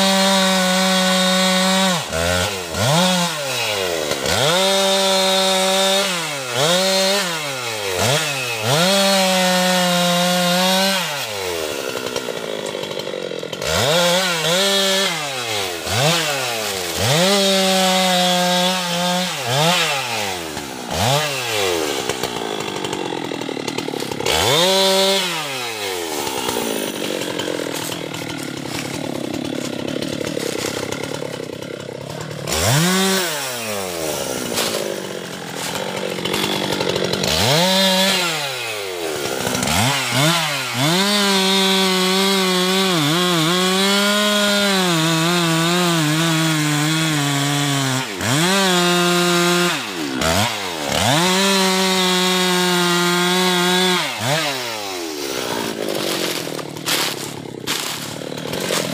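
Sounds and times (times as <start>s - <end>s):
chainsaw revving while cutting wood: 0.0s - 58.9s.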